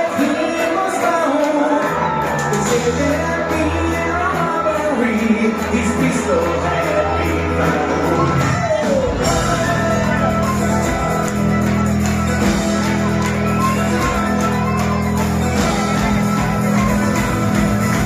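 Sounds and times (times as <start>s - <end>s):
bluegrass band playing rock live: 0.0s - 18.0s
bass line: 1.8s - 18.0s.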